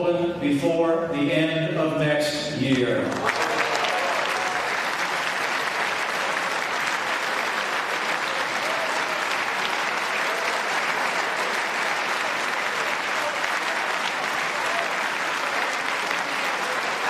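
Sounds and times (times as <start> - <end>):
large audience applauding: 3.0 - 17.0.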